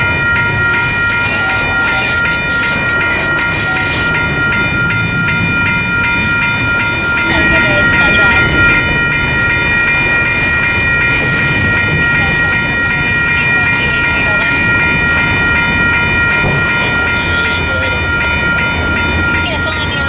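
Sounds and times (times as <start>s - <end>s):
freight train wheels on rails: 0.0s - 20.0s
high ringing tone: 0.0s - 20.0s.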